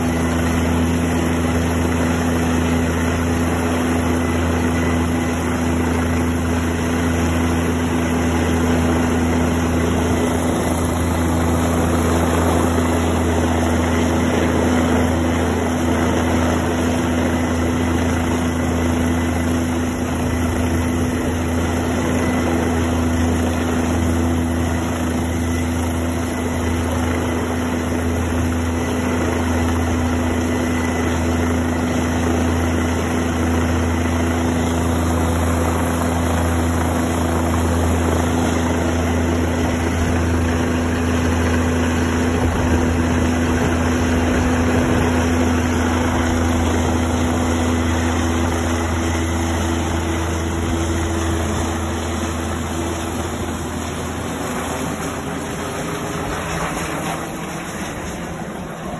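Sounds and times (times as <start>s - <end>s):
helicopter rotor and engine: 0.0s - 58.9s.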